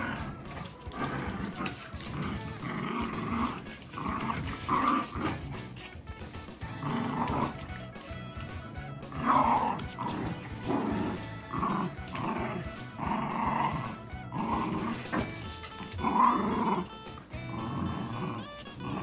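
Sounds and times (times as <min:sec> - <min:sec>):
background music: 0:00.0 - 0:19.0
dogs growling in play: 0:00.0 - 0:19.0.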